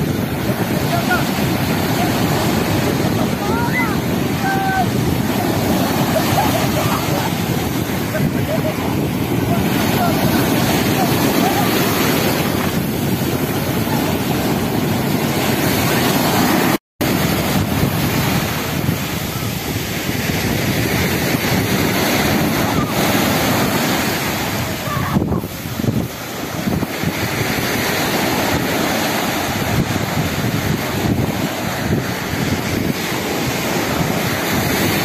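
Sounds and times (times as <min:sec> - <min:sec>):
surf breaking on beach: 0:00.0 - 0:35.0
wind buffeting microphone: 0:00.0 - 0:35.0.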